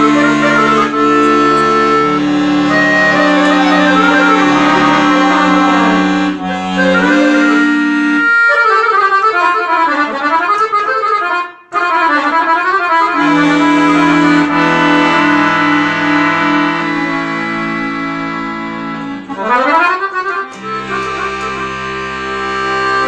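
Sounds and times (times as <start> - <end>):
button accordion playing folk tune: 0.0 - 23.0.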